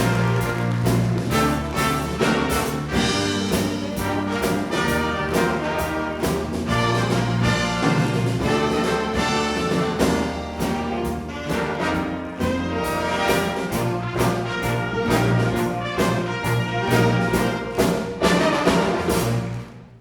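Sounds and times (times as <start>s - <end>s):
jazz big band playing: 0.0s - 20.0s.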